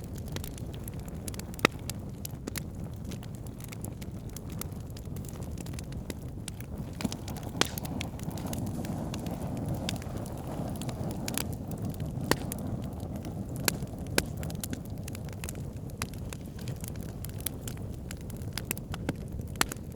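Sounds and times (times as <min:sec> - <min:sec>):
campfire crackling and popping: 0:00.0 - 0:19.9.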